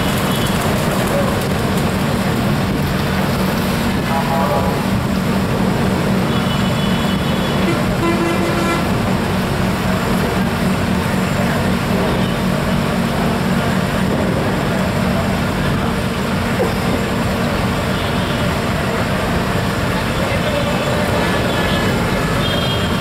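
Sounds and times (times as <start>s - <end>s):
ferry engine drone: 0.0s - 23.0s.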